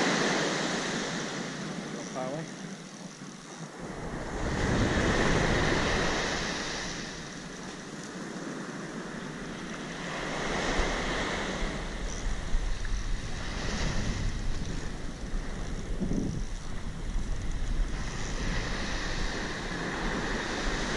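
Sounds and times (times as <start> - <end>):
surf breaking on a beach: 0.0 - 20.9
wind rumbling on microphone: 0.0 - 20.9.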